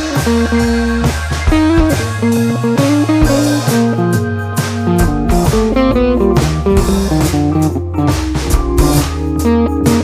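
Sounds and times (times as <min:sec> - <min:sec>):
upbeat guitar music: 0:00.0 - 0:10.0.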